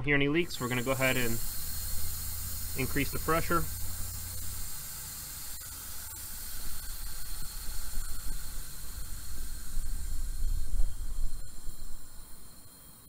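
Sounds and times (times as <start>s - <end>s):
gas hissing through hoses: 0.0s - 13.0s.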